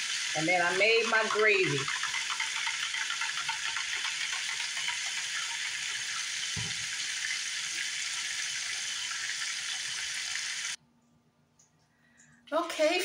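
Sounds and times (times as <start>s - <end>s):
steaks sizzling in hot oil: 0.0s - 10.8s.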